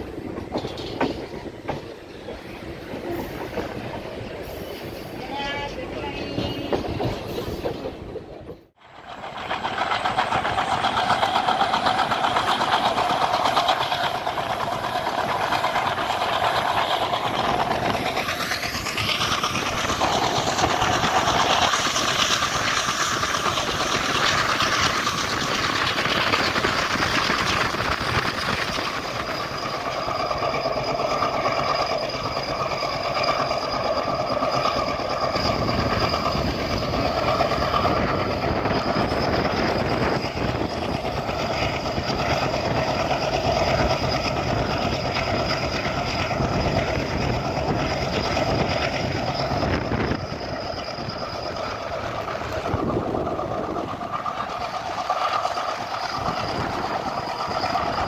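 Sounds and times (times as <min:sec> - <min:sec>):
train wheels rushing on rails: 0:00.0 - 0:58.0
wind noise: 0:09.7 - 0:58.0.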